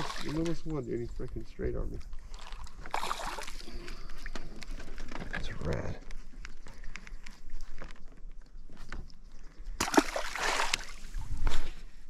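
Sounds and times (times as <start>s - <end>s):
water sloshing around boat: 0.0s - 12.0s.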